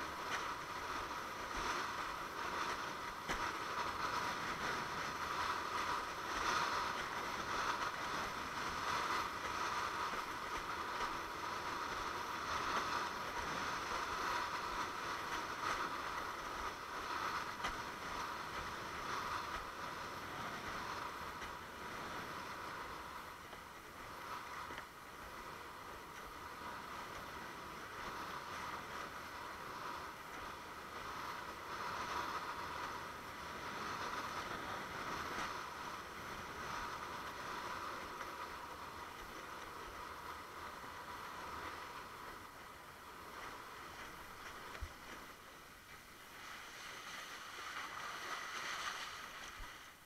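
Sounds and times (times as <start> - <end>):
water rushing past a board: 0.0 - 50.0
wind: 0.0 - 50.0.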